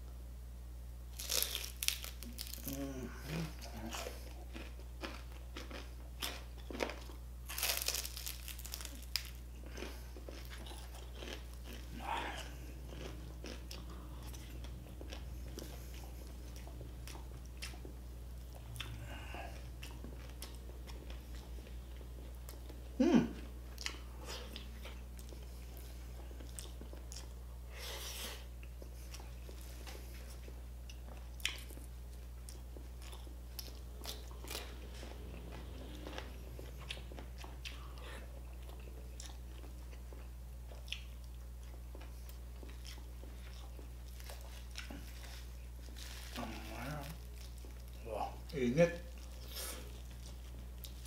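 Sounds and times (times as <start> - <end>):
person chewing crunchy food: 1.1 - 51.0.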